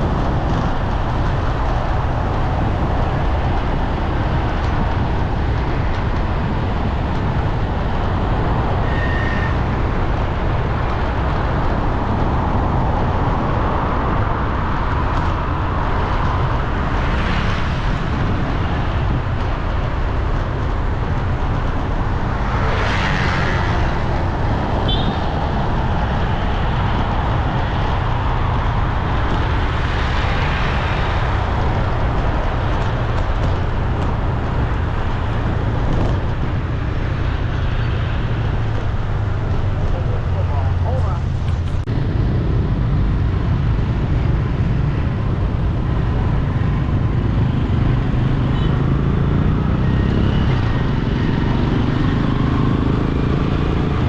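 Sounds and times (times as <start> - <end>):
street traffic rumble: 0.0 - 54.0
vehicles passing: 0.0 - 54.0.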